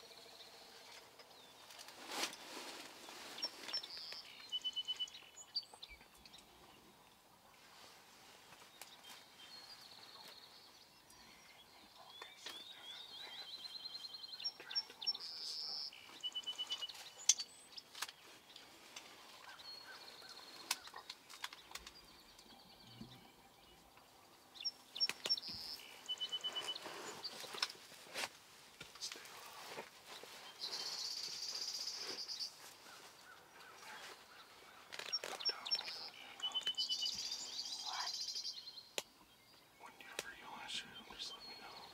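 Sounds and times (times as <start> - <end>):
songbirds singing: 0.0 - 41.9.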